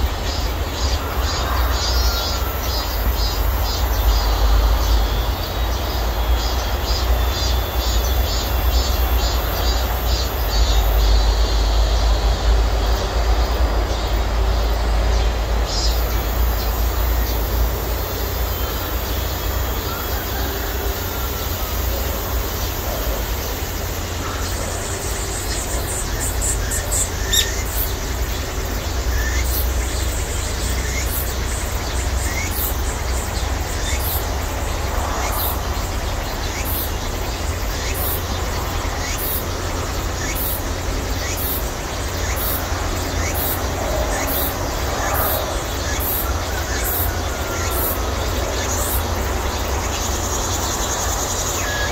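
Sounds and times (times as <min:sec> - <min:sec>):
cicadas buzzing: 0:00.0 - 0:51.9.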